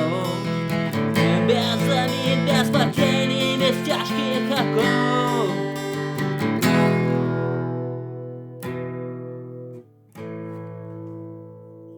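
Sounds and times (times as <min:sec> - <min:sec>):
guitar chords ringing out: 0:00.0 - 0:11.9.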